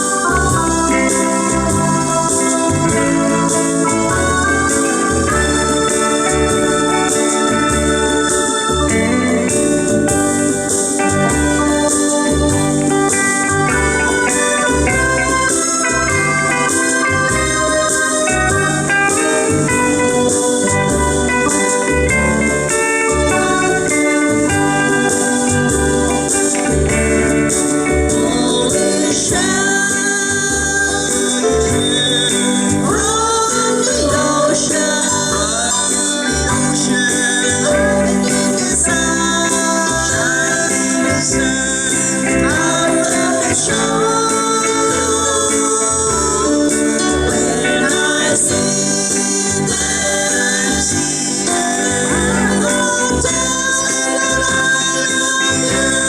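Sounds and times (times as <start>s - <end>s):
bass beat: 0.0s - 29.8s, 30.4s - 33.4s, 36.3s - 56.0s
guitar: 0.0s - 56.0s
vocals in harmony: 0.0s - 56.0s.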